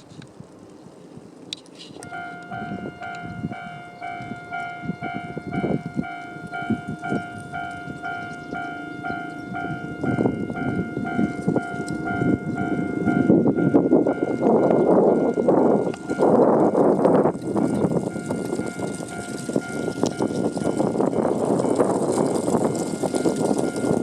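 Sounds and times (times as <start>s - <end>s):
level crossing warning bell: 2.0s - 24.0s
rough low rumble: 2.1s - 24.0s.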